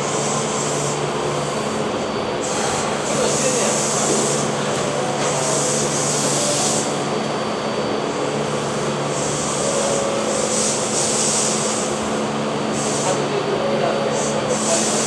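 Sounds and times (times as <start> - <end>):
subway train equipment humming: 0.0 - 15.0.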